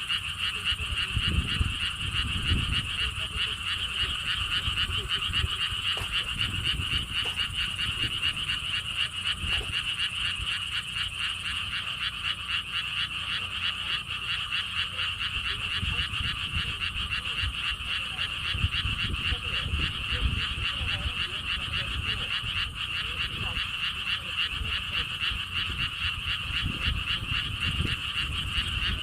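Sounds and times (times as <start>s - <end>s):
wind rumble on microphone: 0.0s - 11.8s, 15.0s - 29.0s
frogs calling: 0.0s - 29.0s.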